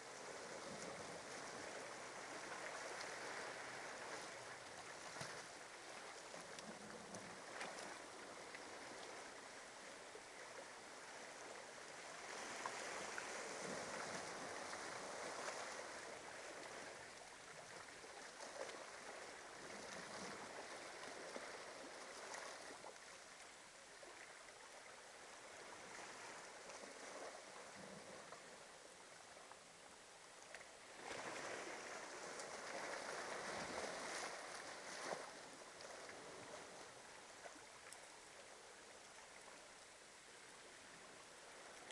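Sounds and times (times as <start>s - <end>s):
small waves washing on sand: 0.0s - 41.9s.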